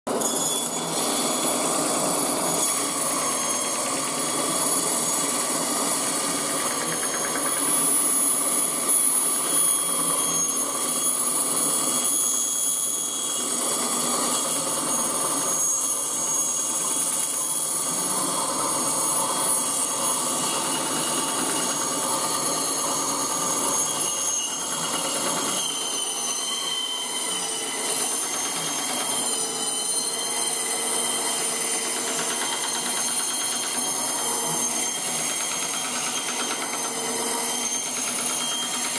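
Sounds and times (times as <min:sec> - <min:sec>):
band saw cutting meat and bone: 0:00.1 - 0:38.9.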